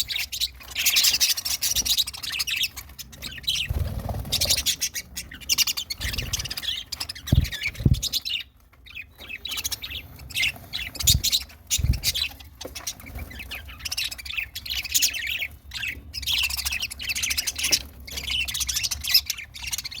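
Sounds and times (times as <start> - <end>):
budgerigars chirping and chattering: 0.0 - 20.0.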